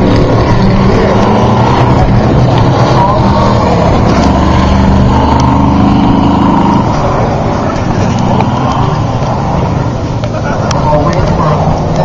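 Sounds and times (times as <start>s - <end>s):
truck engines running loud: 0.0s - 12.0s.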